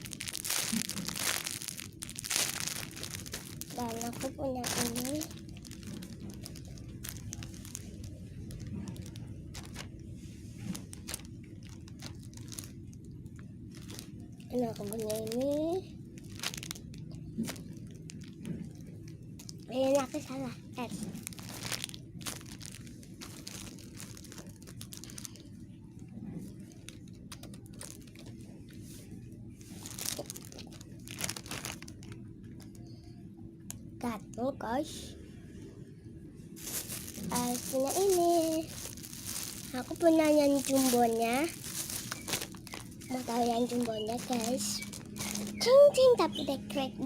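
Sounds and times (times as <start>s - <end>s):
plastic wrapping crinkling: 0.0s - 34.4s, 36.5s - 47.0s
steady low hum: 0.0s - 47.0s.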